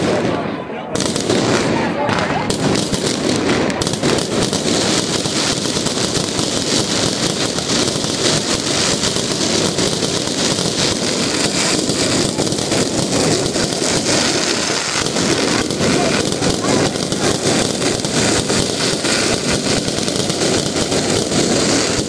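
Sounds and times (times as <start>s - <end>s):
fireworks crackling and bangs: 0.0s - 22.0s.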